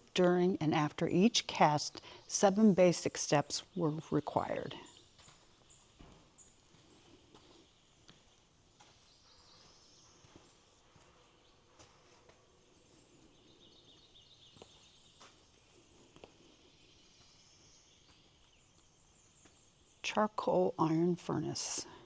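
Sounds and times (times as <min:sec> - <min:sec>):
distant birdsong: 0:00.0 - 0:22.0.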